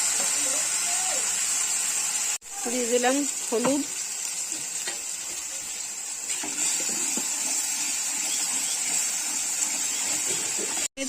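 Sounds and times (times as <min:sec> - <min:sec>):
spice paste sizzling in a pan: 0:00.0 - 0:10.9.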